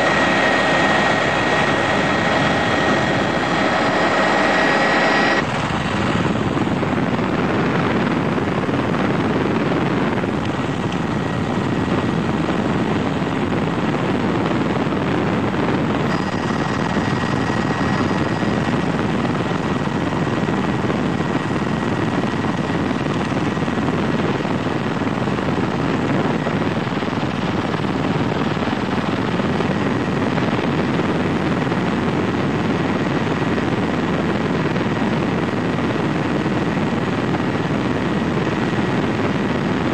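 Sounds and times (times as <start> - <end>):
aircraft cabin engine drone: 0.0 - 39.9
faint steady whine: 0.0 - 39.9.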